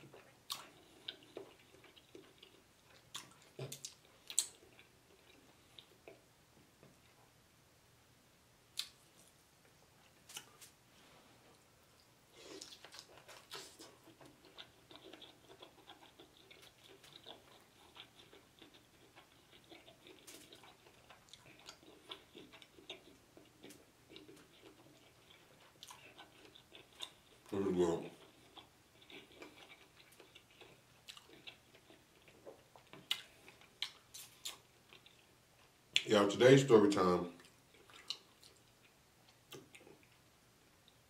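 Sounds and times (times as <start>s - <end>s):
person chewing wetly: 0.0s - 6.2s, 12.0s - 36.1s, 37.4s - 41.0s.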